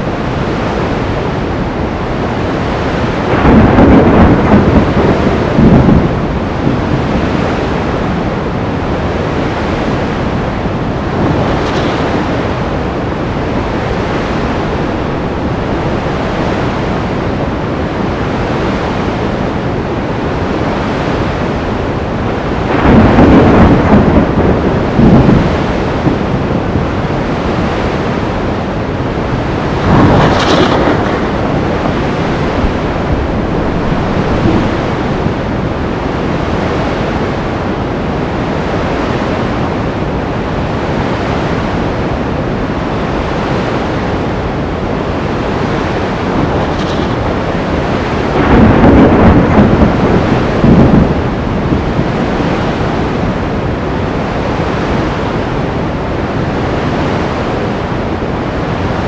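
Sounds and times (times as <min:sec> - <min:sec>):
surf crashing: 0:00.0 - 0:59.0
wind roaring: 0:00.0 - 0:59.0.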